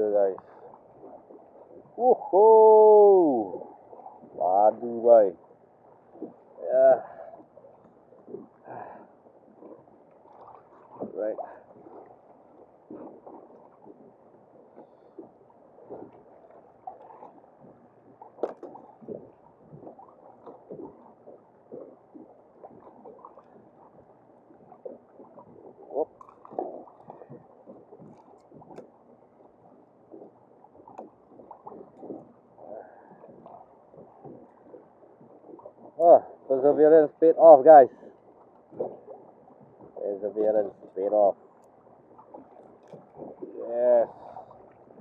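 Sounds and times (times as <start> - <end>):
water slapping against kayak hull: 0.0 - 45.0.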